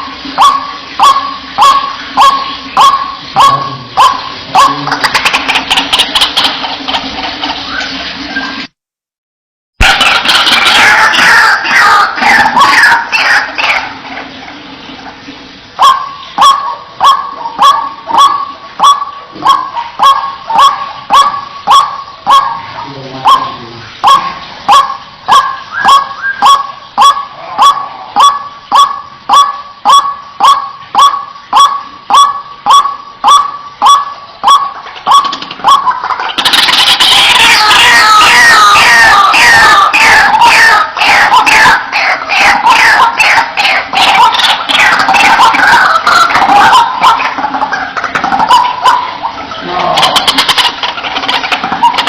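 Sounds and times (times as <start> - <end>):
waterhen calling: 0.0 - 8.7, 9.8 - 52.0.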